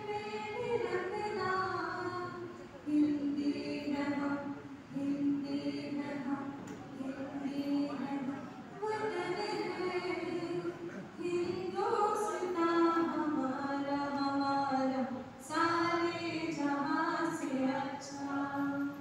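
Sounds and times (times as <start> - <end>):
group singing into a microphone: 0.0 - 19.0.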